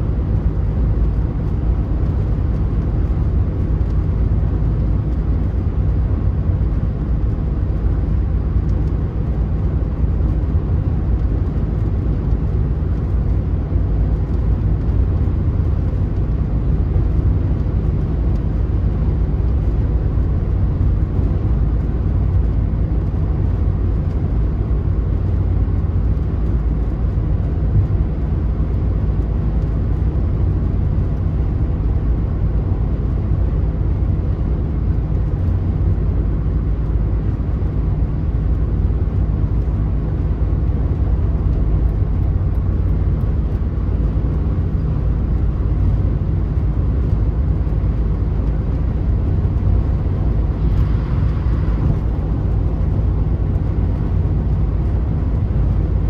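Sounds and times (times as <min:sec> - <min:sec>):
car tyre and wind noise: 0:00.0 - 0:56.0.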